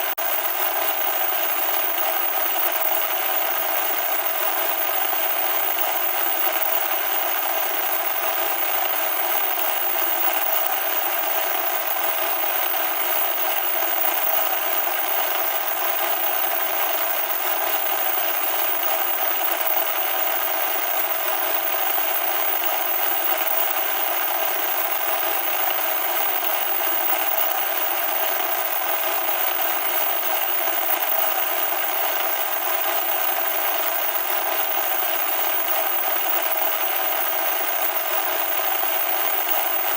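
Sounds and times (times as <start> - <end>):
electronic static hiss: 0.0 - 39.9.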